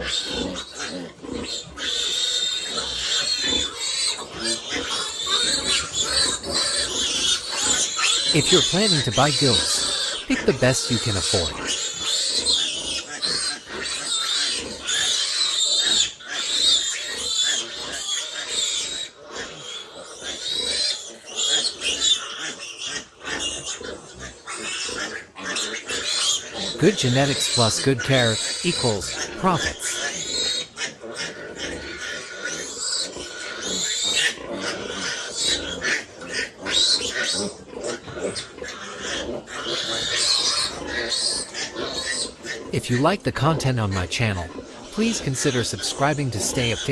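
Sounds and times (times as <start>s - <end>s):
pigs grunting: 0.0s - 46.9s
pigs squealing: 0.0s - 46.9s.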